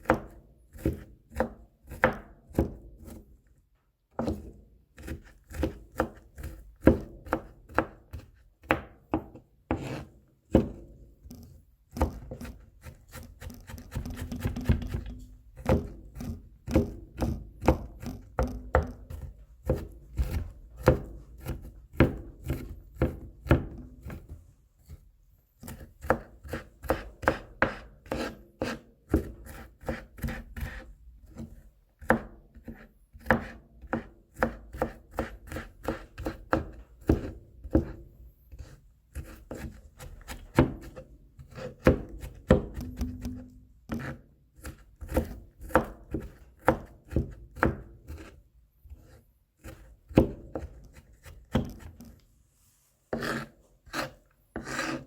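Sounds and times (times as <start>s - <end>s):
knife chopping on cutting board: 0.0s - 3.2s, 4.1s - 25.0s, 25.6s - 52.2s, 53.1s - 55.0s
knife scraping along board: 4.2s - 8.8s, 9.7s - 10.2s, 11.2s - 23.2s, 25.6s - 55.0s.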